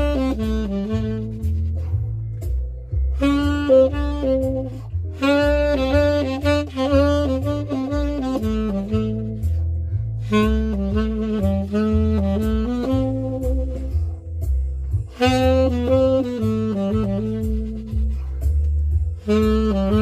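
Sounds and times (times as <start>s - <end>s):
tenor saxophone improvising: 0.0s - 20.0s
walking bass line: 0.0s - 20.0s.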